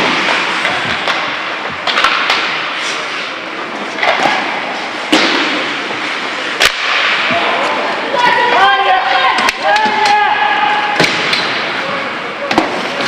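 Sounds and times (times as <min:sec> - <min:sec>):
hockey sticks and puck clacking: 0:00.0 - 0:13.0.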